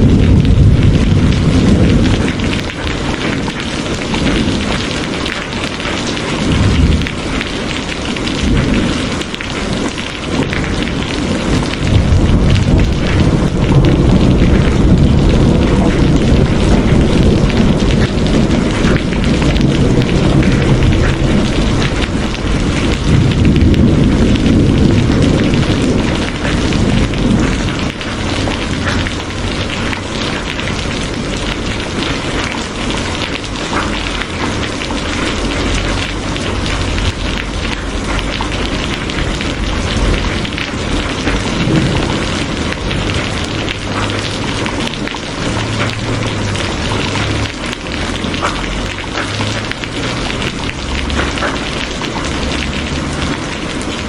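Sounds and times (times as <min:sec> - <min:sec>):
heavy rain hissing: 0:00.0 - 0:54.0
low rumble of thunder: 0:00.0 - 0:54.0.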